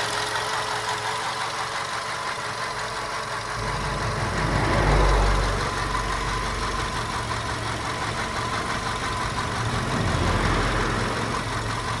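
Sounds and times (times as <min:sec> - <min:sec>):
car engine idling with knocking: 0:00.0 - 0:12.0.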